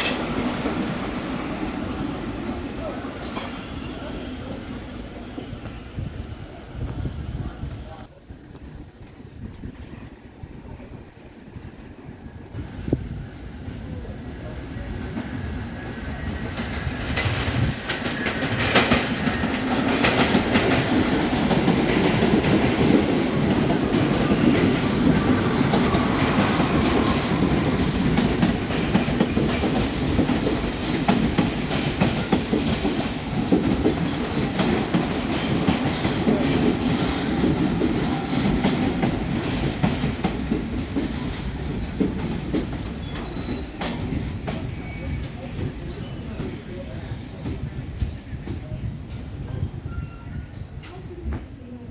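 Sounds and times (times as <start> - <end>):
subway train wheels clattering: 0.0 - 51.9.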